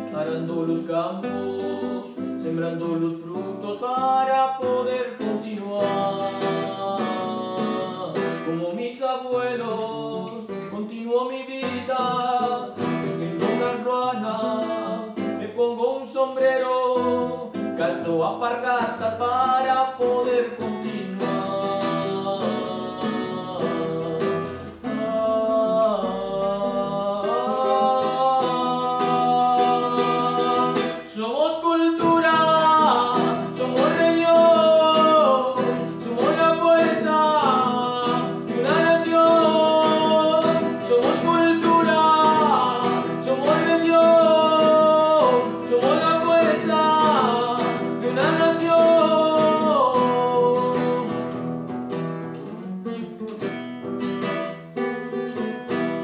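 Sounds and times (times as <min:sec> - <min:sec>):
man singing: 0:00.0 - 0:53.5
strummed classical guitar: 0:00.0 - 0:56.0.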